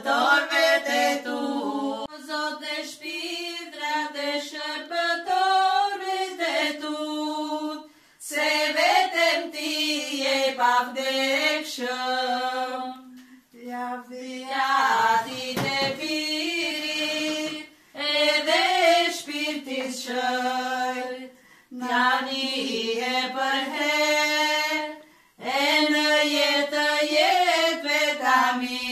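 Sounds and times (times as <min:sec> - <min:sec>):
women singing unaccompanied: 0:00.0 - 0:28.9.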